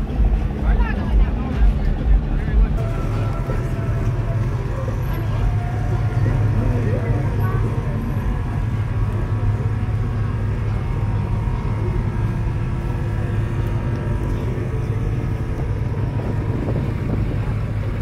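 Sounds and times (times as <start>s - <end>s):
truck engine rumbling past: 0.0s - 18.0s.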